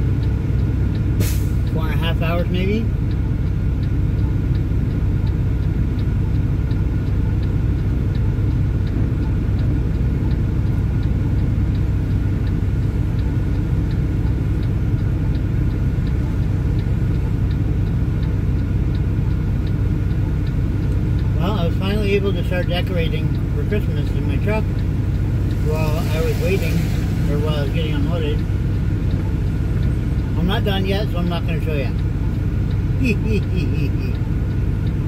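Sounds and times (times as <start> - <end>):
diesel engine idling: 0.0 - 35.0
faint regular ticking: 0.0 - 35.0.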